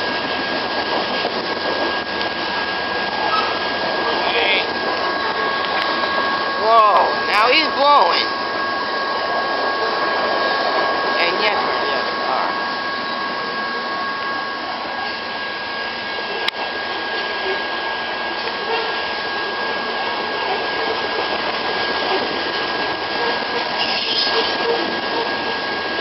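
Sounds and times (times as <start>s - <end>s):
faint high whine: 0.0s - 26.0s
train rushing past: 0.0s - 26.0s.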